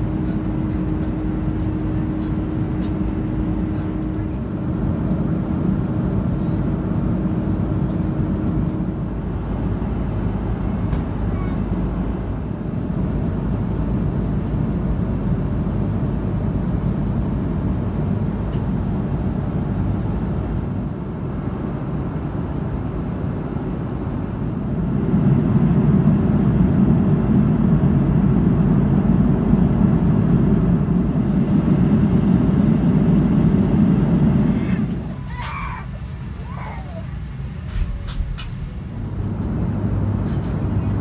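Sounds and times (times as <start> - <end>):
airliner cabin rumble: 0.0 - 41.0.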